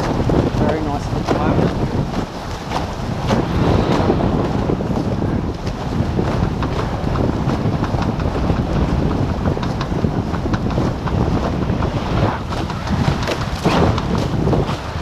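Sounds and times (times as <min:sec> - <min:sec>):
water rushing past hulls: 0:00.0 - 0:15.0
water splashes and slaps: 0:00.0 - 0:15.0
wind buffeting microphone: 0:00.0 - 0:15.0.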